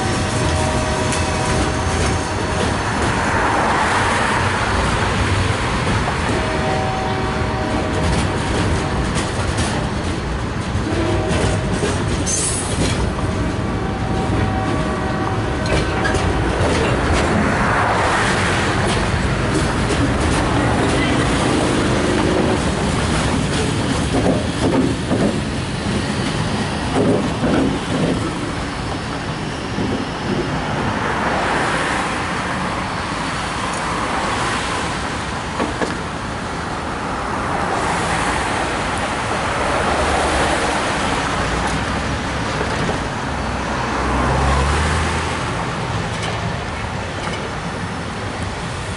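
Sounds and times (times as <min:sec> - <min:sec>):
traffic passing: 0:00.0 - 0:48.9.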